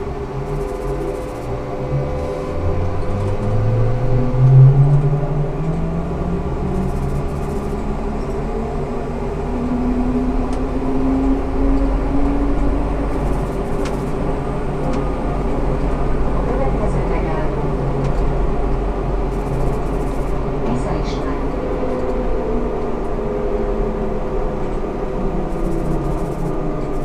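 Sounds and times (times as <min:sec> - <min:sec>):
electric traction motor whine: 0:00.0 - 0:27.0
higher whine: 0:00.0 - 0:27.0
steady low rumble: 0:00.0 - 0:27.0.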